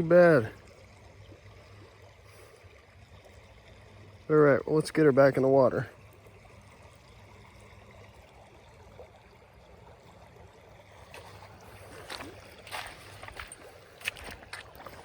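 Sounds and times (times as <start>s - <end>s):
creek water running faintly: 0.0s - 15.0s
water splashes: 0.0s - 15.0s.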